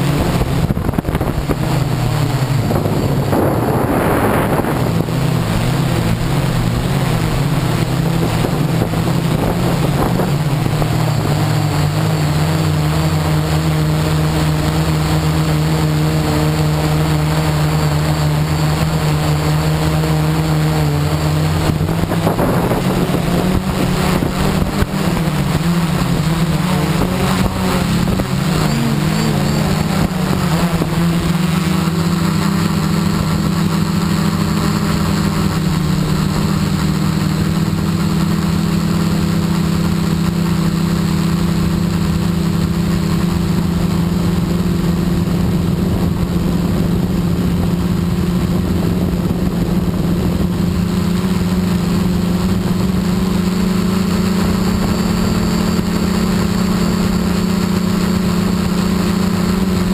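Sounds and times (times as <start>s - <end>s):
drone propellers whirring: 0.0s - 59.9s.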